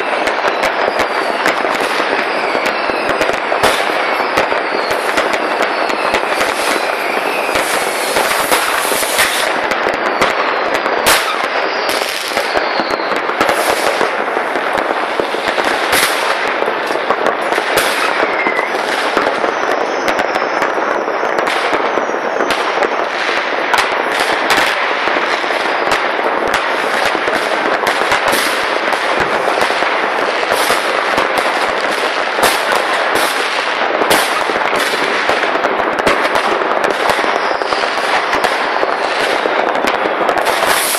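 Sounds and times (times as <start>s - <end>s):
firework whistles: 0.0s - 40.9s
fireworks crackling and banging: 0.0s - 40.9s.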